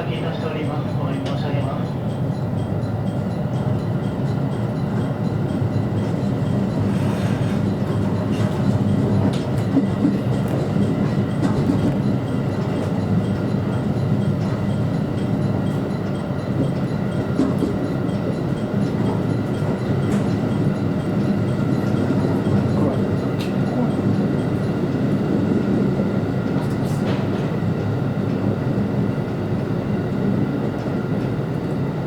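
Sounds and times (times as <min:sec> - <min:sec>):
electric train running on track: 0:00.0 - 0:32.0.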